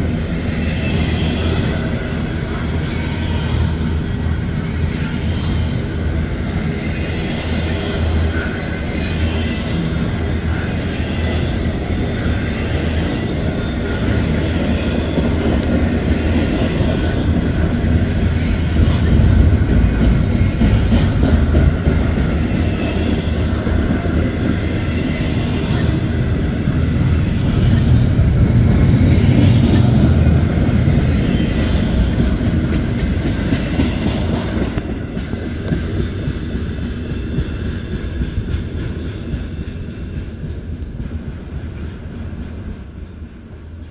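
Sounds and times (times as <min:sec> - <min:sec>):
freight cars rumbling on rails: 0:00.0 - 0:43.9.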